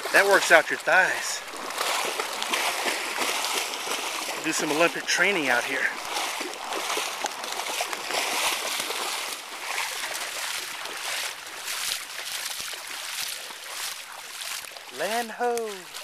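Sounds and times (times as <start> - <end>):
water sloshing from wading: 0.0 - 16.0.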